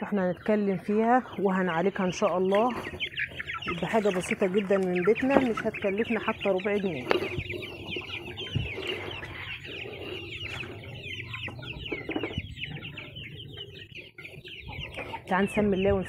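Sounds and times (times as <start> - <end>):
poultry cheeping and clucking: 0.0 - 16.0.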